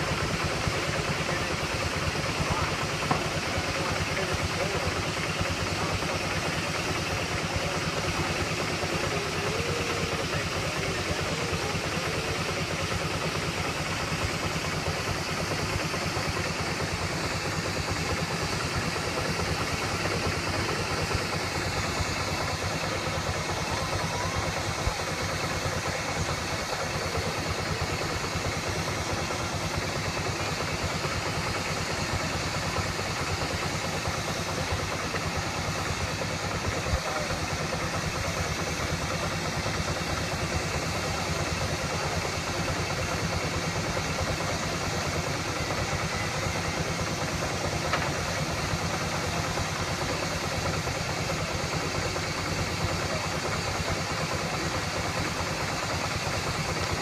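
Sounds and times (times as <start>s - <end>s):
steam traction engine running: 0.0s - 57.0s.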